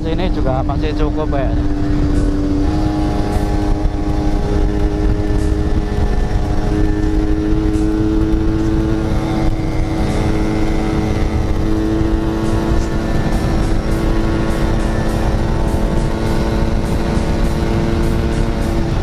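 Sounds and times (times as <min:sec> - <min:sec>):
two-stroke motorcycle engine running: 0:00.0 - 0:19.0
wind rumble: 0:00.0 - 0:19.0.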